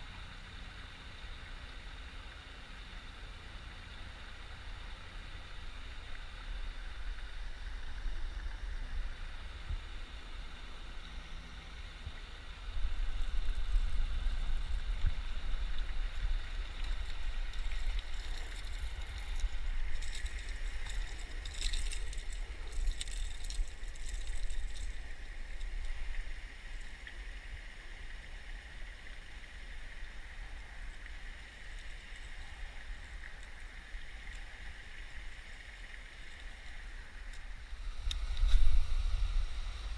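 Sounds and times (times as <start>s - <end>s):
spillway water rushing: 0.0s - 39.9s
wind rumble on microphone: 4.7s - 39.9s.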